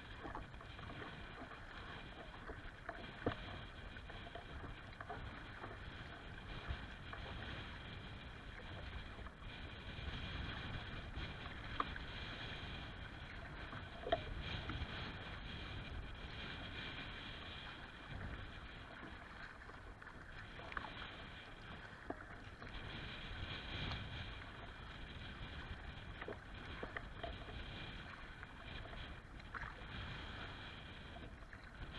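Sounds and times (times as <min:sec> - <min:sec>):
water lapping against a hull: 0:00.0 - 0:31.9
wind rumbling on microphone: 0:00.0 - 0:31.9.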